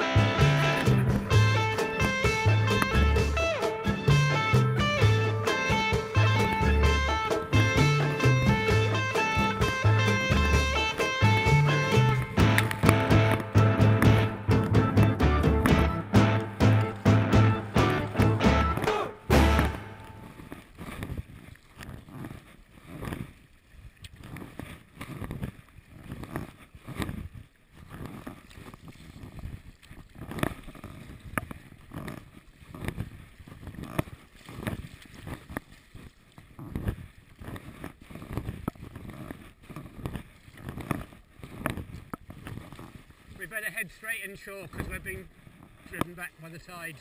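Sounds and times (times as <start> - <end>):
paddle splashing in water: 0.0 - 47.0
water slapping against hull: 0.0 - 47.0.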